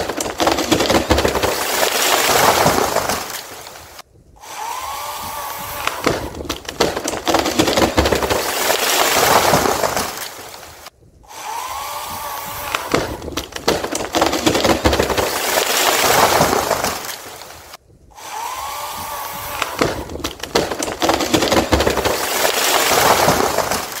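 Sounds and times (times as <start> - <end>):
limb crashing through branches: 0.0 - 4.0, 5.6 - 10.9, 12.6 - 17.8, 19.2 - 24.0
tree limb cracking: 0.0 - 4.0, 5.6 - 10.9, 12.4 - 17.8, 19.0 - 24.0.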